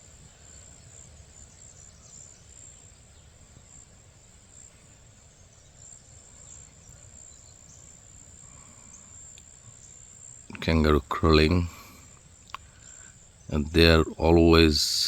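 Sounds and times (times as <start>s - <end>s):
faint bird chirps: 0.0s - 15.0s
insects chirring in grass: 0.0s - 15.0s.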